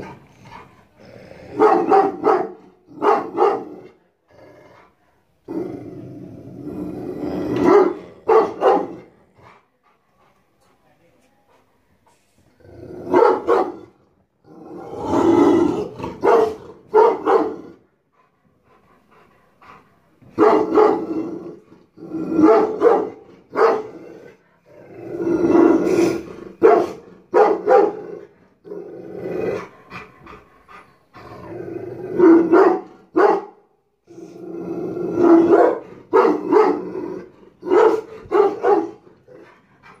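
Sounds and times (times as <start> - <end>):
dog barking and growling: 0.0 - 9.7, 12.6 - 17.9, 19.2 - 40.0.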